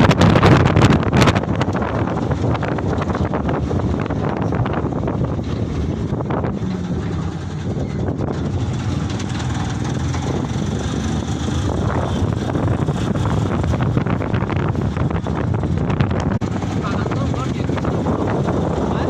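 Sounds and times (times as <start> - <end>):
road noise: 0.0 - 19.0
truck engine drone: 0.0 - 19.0.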